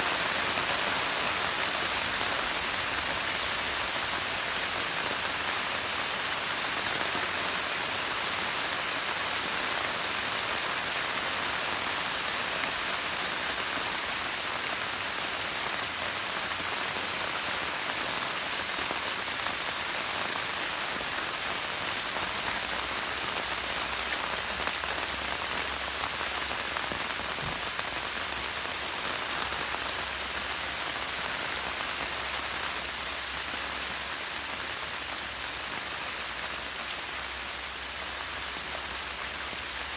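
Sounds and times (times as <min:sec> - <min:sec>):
rain pattering on foliage: 0:00.0 - 0:39.9.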